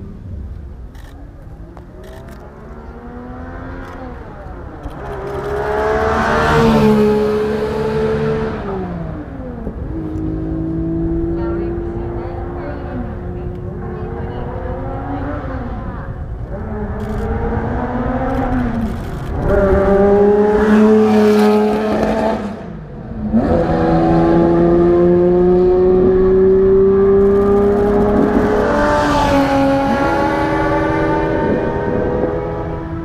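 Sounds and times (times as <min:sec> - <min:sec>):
car engine accelerating hard: 0:01.8 - 0:33.0.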